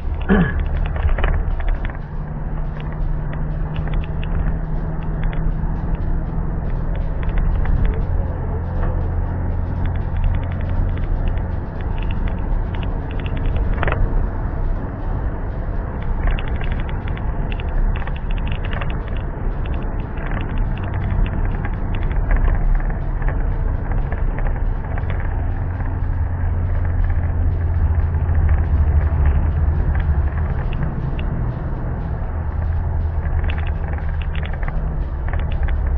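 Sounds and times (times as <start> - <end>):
motor vehicle rumbling: 0.0 - 35.9.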